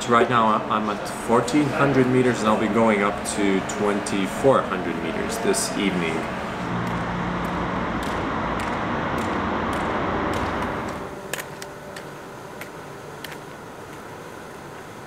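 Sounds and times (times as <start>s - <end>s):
traffic echoing in a tunnel: 0.0s - 14.2s.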